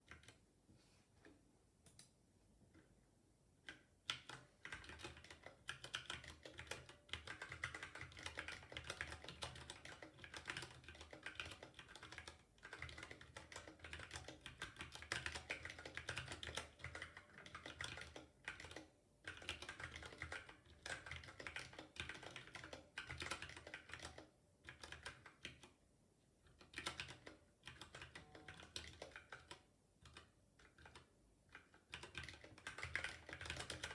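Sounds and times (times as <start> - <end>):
keyboard typing: 3.7 - 25.8, 26.5 - 33.9.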